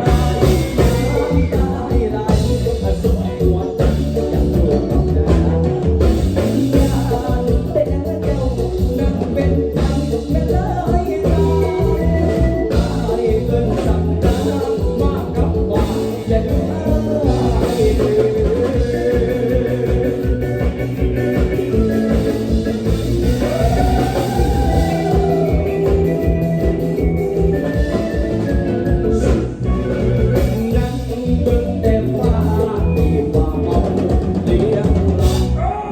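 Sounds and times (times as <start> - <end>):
steady drum beat: 0.0 - 35.8
band playing: 0.0 - 35.9
heavy bass line: 0.0 - 35.9
person singing: 0.0 - 35.9.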